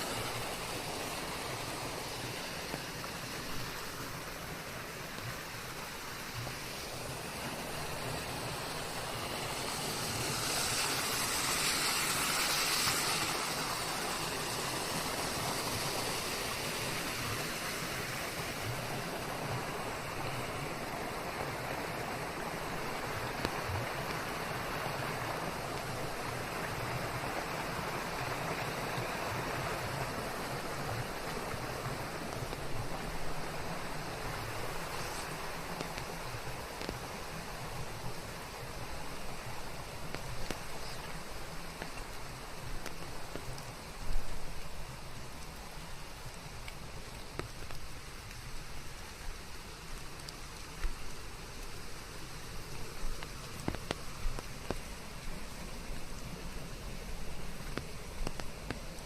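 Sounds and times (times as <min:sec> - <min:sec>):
steady rain hiss: 0:00.0 - 0:59.0
white noise: 0:00.0 - 0:59.0.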